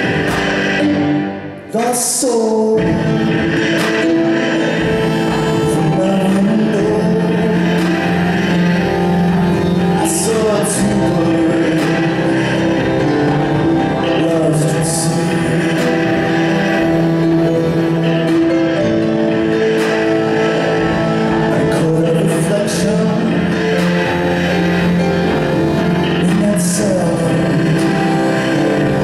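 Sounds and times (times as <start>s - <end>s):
electric keyboard chords: 0.0s - 29.0s
man singing: 0.0s - 29.0s.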